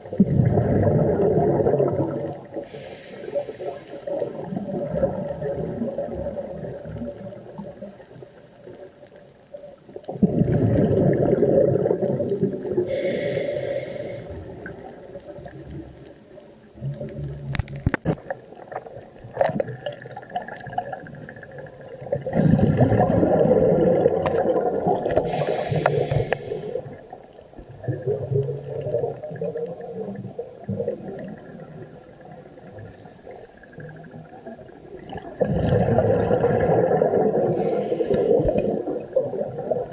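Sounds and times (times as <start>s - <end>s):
underwater bubbles bursting: 0.0s - 8.9s, 9.8s - 16.1s, 16.7s - 39.9s
quiet bubbling: 0.0s - 39.9s.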